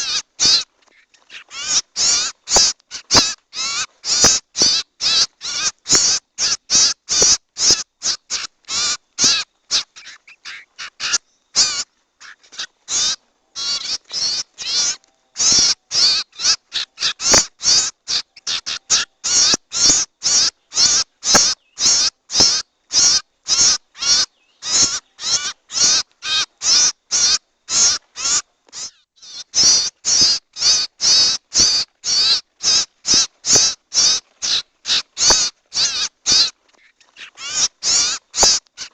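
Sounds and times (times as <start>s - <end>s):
harsh rasping bird calls: 0.0s - 38.9s.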